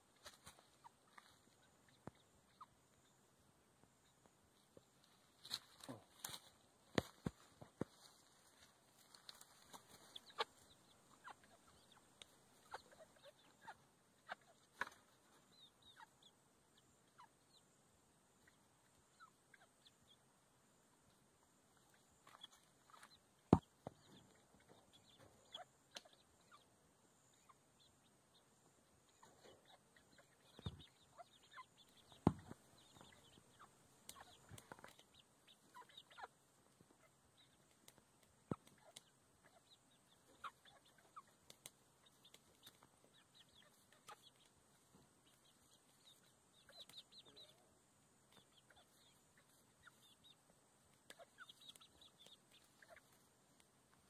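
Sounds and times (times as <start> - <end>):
hens clucking: 4.0 - 54.0.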